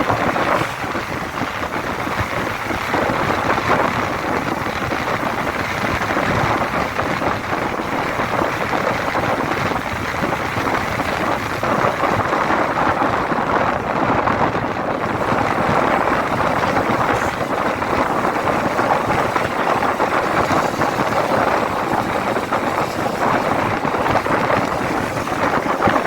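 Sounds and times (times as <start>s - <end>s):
road traffic rushing: 0.0s - 26.0s.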